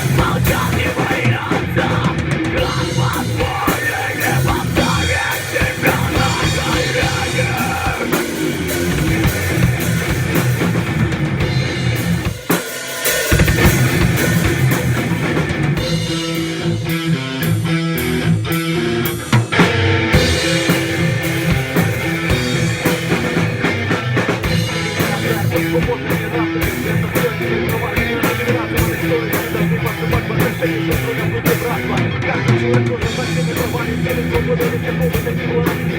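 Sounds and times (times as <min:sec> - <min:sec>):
heavy metal band playing: 0:00.0 - 0:35.9.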